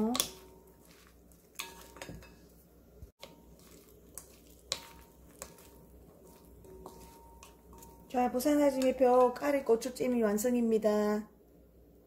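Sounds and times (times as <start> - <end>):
food being stirred in a bowl: 0.0 - 10.6.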